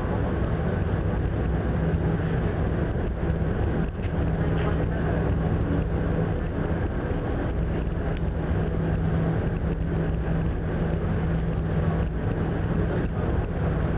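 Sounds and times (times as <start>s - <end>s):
ship engines droning: 0.0s - 13.9s
wind: 0.0s - 13.9s.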